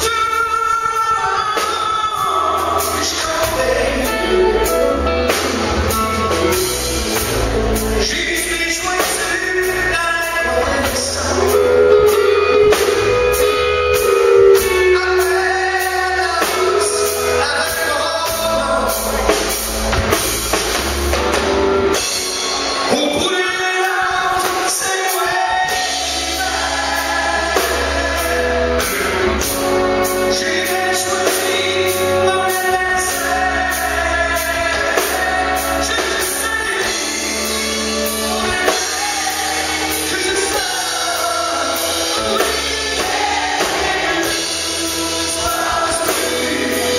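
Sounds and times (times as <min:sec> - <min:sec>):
person singing: 0:00.0 - 0:19.7, 0:21.8 - 0:46.9
drums: 0:00.0 - 0:46.9
electric bass: 0:00.0 - 0:46.9.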